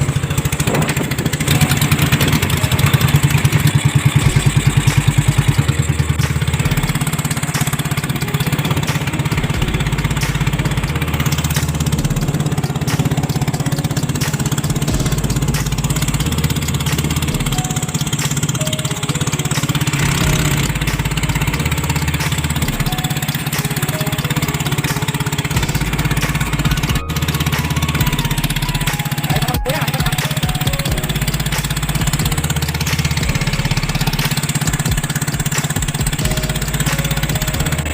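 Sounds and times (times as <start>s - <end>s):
small boat engine puttering: 0.0s - 37.9s.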